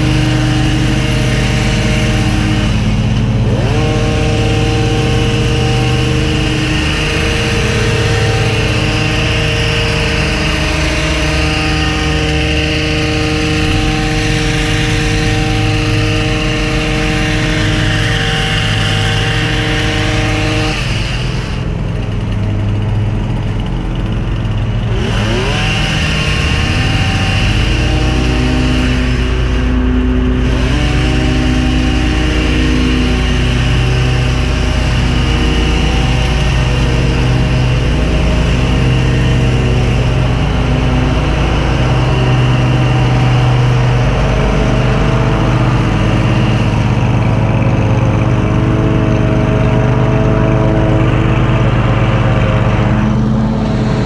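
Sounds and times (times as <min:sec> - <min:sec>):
hedge trimmer engine: 0:00.0 - 0:54.0
lawn mower engine running: 0:00.0 - 0:54.0.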